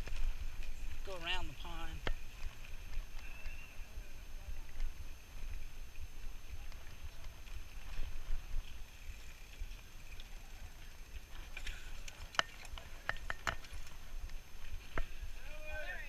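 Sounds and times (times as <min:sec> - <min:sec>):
bicycle tyres rumbling on dirt: 0:00.0 - 0:16.0.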